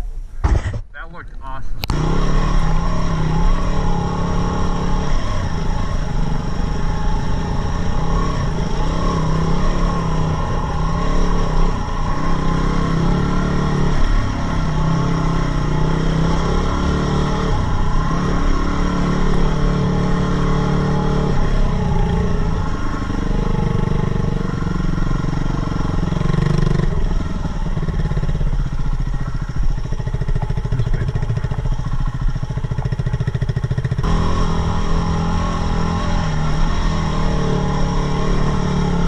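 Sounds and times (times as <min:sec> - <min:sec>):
motorcycle engine running: 0:01.9 - 0:39.0.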